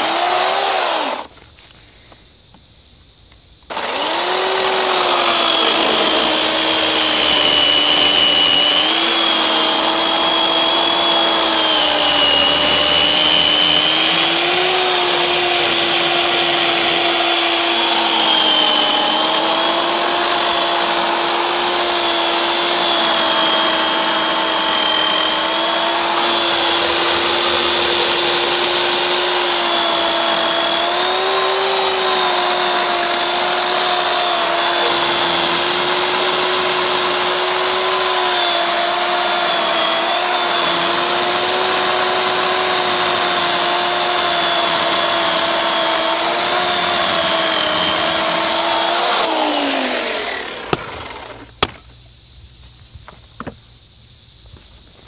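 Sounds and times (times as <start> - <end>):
electric chainsaw running: 0.0 - 1.3, 3.7 - 51.8.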